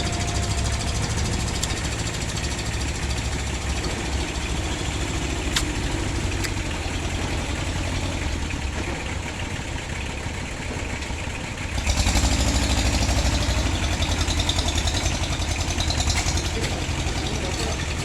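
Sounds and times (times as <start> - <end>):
small diesel engine idling: 0.0 - 18.0.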